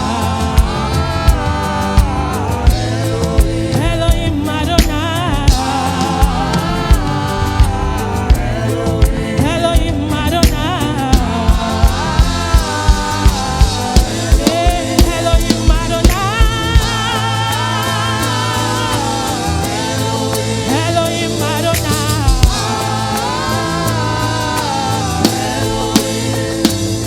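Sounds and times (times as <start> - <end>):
drum kit beats: 0.0 - 27.0
gospel singing voices: 0.0 - 27.0
low bass: 0.0 - 27.0.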